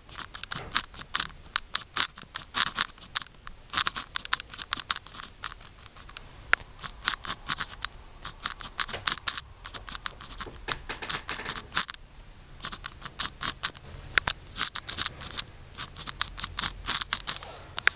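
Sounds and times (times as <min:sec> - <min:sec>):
pen scratching on paper: 0:00.0 - 0:12.0, 0:12.6 - 0:17.9.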